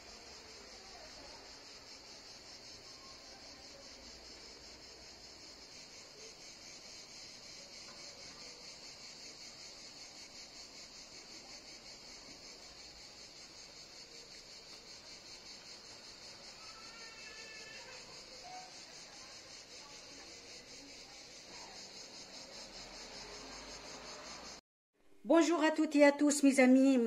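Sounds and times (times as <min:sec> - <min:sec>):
high-pitched insect trill: 0:00.0 - 0:24.6.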